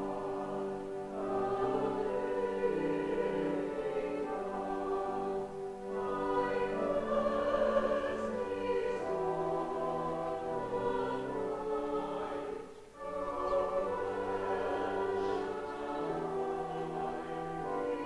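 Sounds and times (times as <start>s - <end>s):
church choir singing a hymn: 0.0s - 18.0s.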